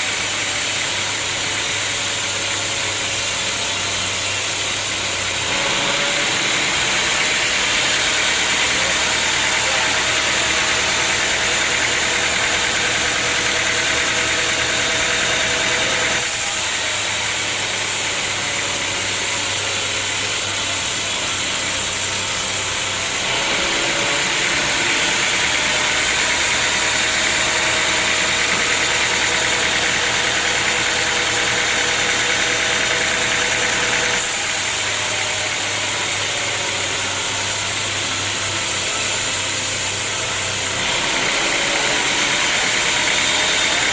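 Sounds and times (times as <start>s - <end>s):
sawmill motor hum: 0.0s - 43.9s.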